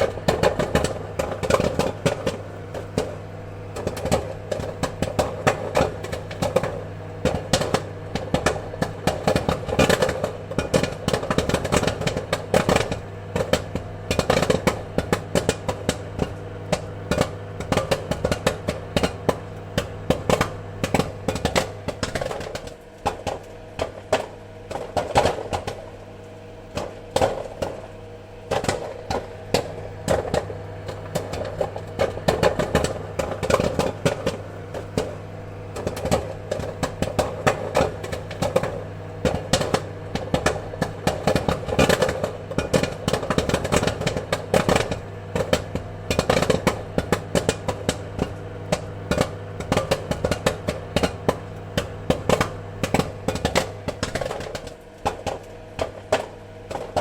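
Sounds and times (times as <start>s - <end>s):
popcorn kernels popping: 0.0s - 57.0s
steady low hum: 0.0s - 57.0s.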